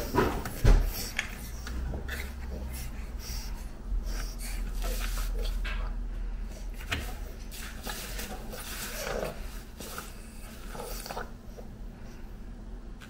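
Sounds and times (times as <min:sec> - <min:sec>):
puppies snorting and breathing: 0:00.0 - 0:13.0.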